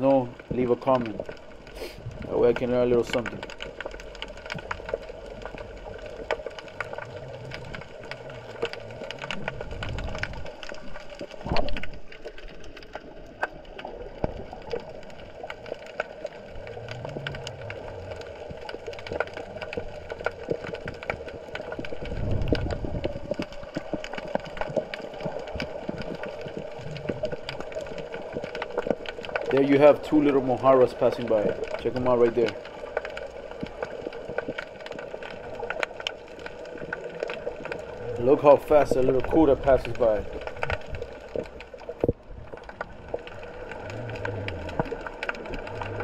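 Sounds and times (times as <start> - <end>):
steady underwater hum: 0.0 - 46.0
surges of moving water: 0.0 - 46.0
underwater crackle of clicks: 0.0 - 46.0.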